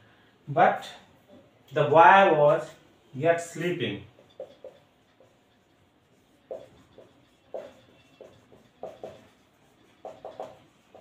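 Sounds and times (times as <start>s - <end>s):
marker pen writing on whiteboard: 1.8s - 11.0s.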